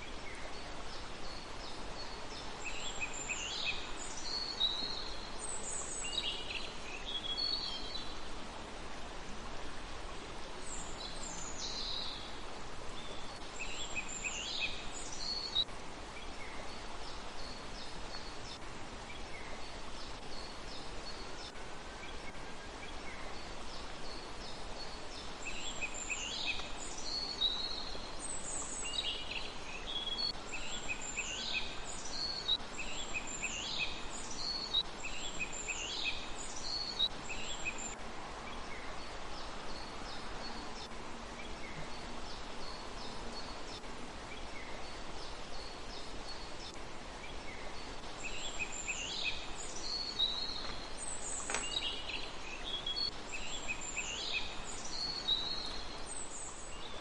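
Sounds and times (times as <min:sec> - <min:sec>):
outdoor background hiss: 0:00.0 - 0:57.0
songbird singing: 0:00.0 - 0:57.0.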